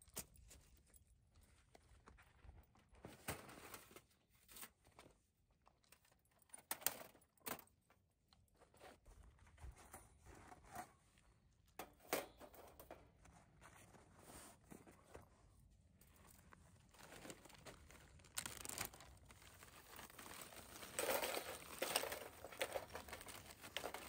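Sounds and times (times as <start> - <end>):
faint rustling and crinkling: 0.0 - 24.0.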